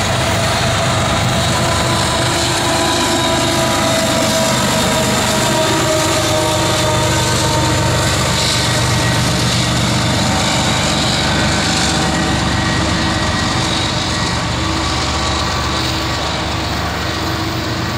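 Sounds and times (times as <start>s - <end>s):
diesel locomotive engine running: 0.0s - 17.9s.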